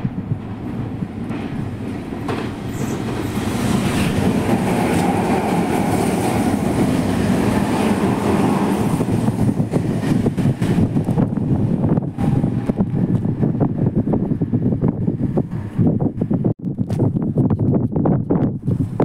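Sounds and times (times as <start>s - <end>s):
train wheels rumbling and clattering: 0.0s - 16.5s.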